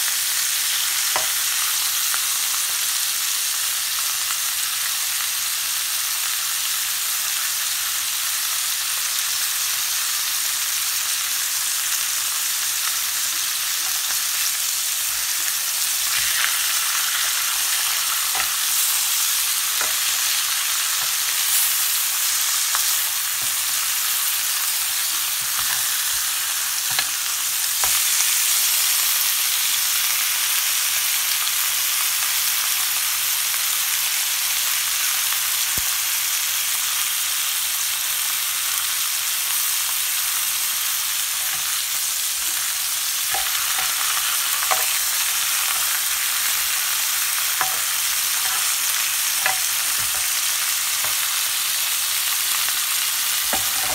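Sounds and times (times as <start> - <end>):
meat sizzling in grill pan: 0.0 - 53.9.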